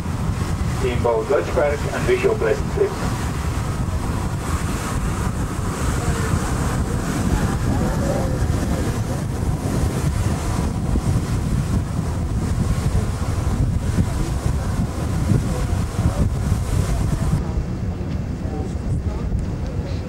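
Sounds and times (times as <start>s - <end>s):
boat engine running: 0.0s - 20.0s
water noise: 0.0s - 20.0s
wind buffeting microphone: 0.0s - 20.0s.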